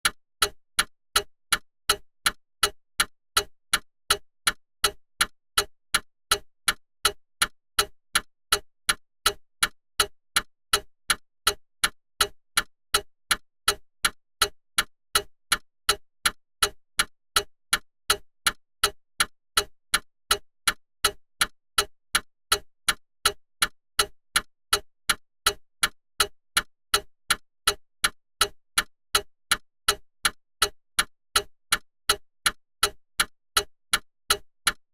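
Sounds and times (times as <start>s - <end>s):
clock ticking: 0.0s - 34.9s.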